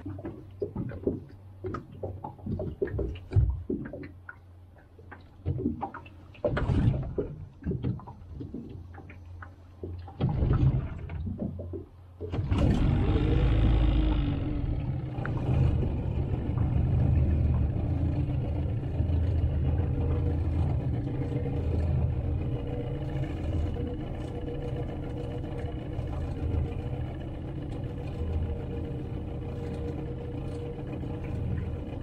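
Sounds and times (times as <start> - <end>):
outboard motor starting and running: 5.1 - 32.0.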